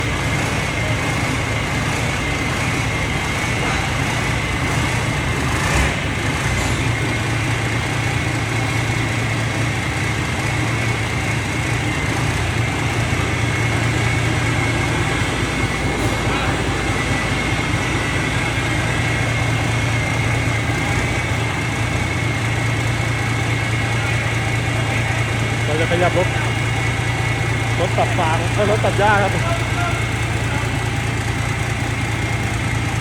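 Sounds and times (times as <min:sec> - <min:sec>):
harvesting machine engine hum: 0:00.0 - 0:33.0
high machine whine: 0:00.0 - 0:33.0.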